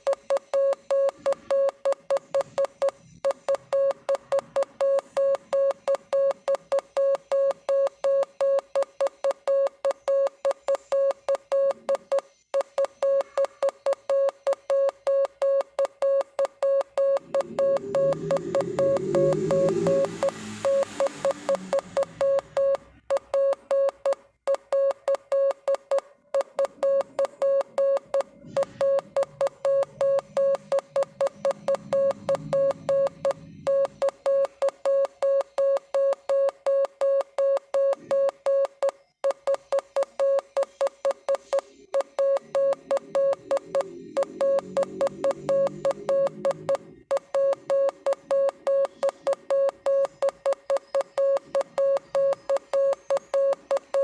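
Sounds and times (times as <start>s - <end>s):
morse code beeps: 0.0s - 54.0s.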